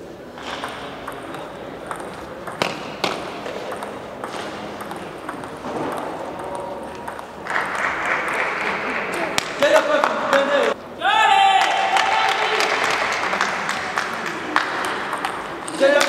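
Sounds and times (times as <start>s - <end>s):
crowd noise: 0.0s - 16.0s
table tennis ball hitting bats: 0.4s - 10.8s, 12.6s - 16.0s.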